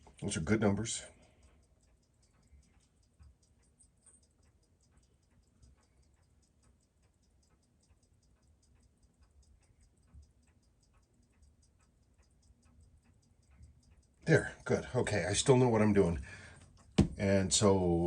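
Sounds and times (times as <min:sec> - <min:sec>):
watch ticking rapidly: 0:00.0 - 0:18.0.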